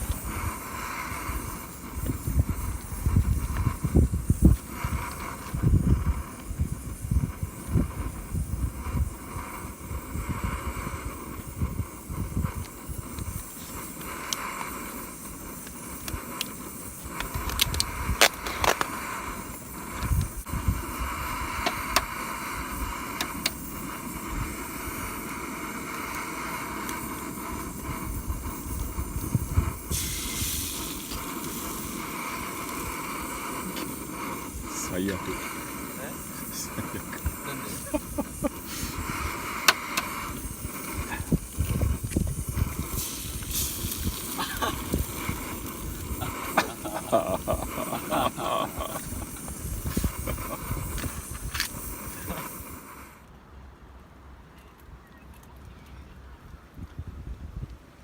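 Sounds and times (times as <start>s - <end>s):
gusty wind buffeting microphone: 0.0s - 52.9s, 56.6s - 57.9s.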